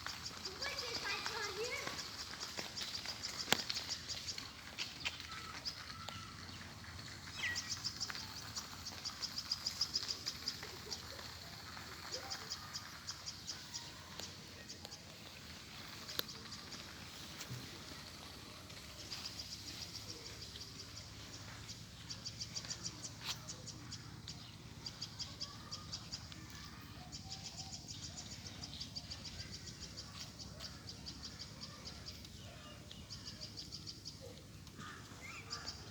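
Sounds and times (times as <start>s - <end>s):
bird chirping: 0.0s - 35.9s.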